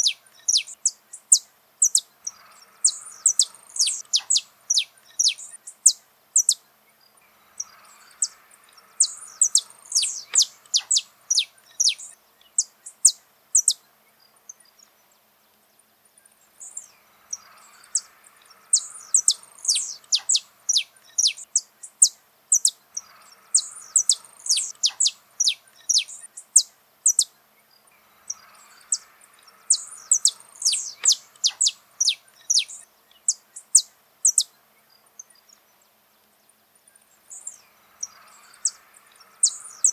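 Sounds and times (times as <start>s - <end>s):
finch singing high chirps: 0.0s - 15.0s, 16.2s - 35.9s, 36.8s - 39.9s.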